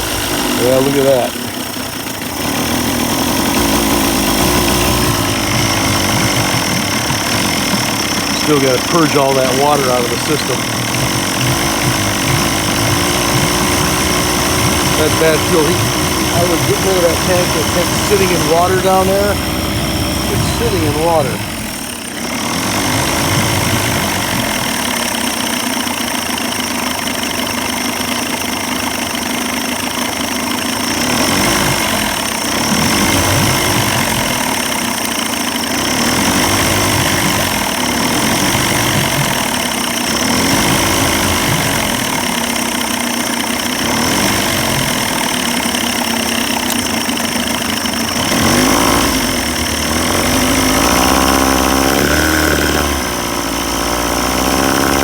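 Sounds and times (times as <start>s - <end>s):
outboard motor running unevenly: 0.0s - 55.0s.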